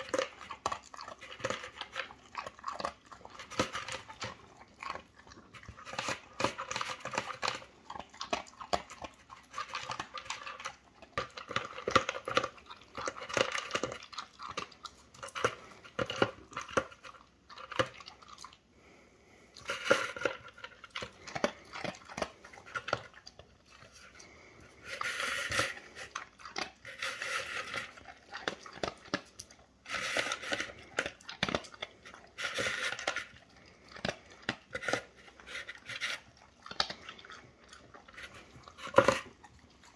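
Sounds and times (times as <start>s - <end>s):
dog crunching kibble: 0.0s - 39.9s.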